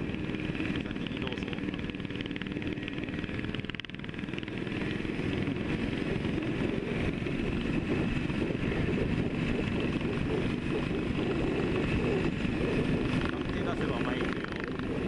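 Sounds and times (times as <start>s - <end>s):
motorcycle engine at riding speed: 0.0s - 15.0s
wind noise: 0.0s - 15.0s.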